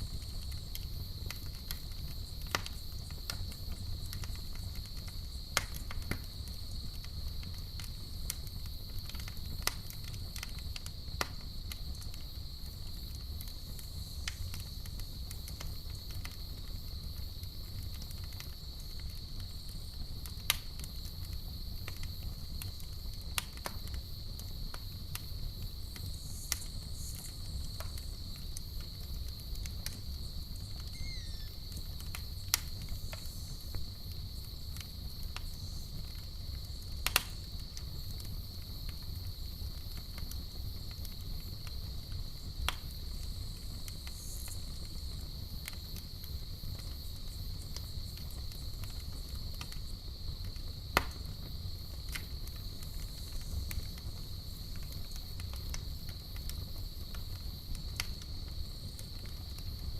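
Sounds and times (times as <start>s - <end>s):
campfire crackling and popping: 0.0s - 59.9s
crickets trilling: 0.0s - 59.9s.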